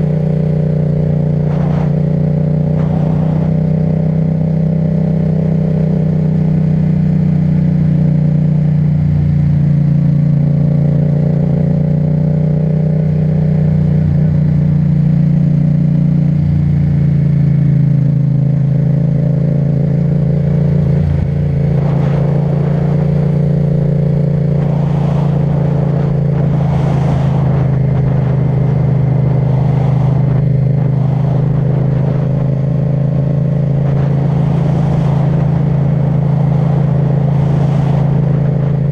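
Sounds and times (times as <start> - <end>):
motorcycle engine at steady revs: 0.0 - 38.9.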